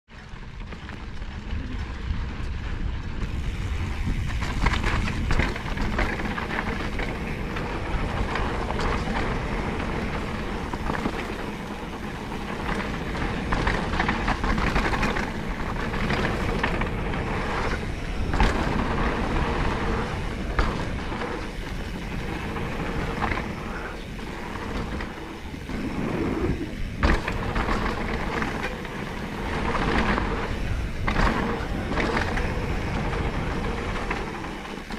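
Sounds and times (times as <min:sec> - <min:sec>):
bike knocks and rattles: 0:00.1 - 0:34.9
wind rushing over microphone: 0:00.2 - 0:34.9.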